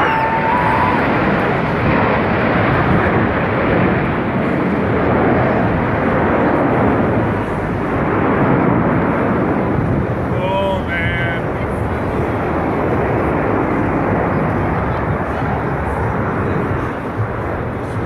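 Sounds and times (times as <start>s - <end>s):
jet noise: 0.0s - 18.0s.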